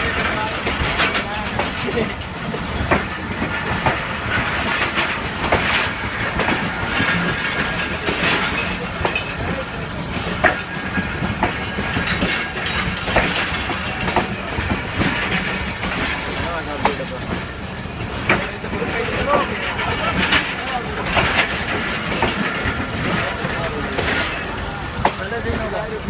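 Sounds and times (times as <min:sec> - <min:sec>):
train rumble: 0:00.0 - 0:26.0
train wheels clicking on rail joints: 0:00.0 - 0:26.0.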